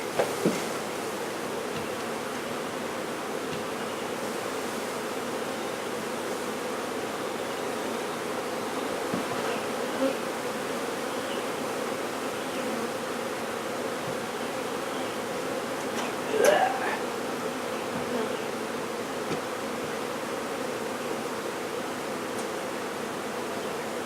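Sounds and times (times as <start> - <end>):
bee swarm buzzing: 0.0 - 24.0.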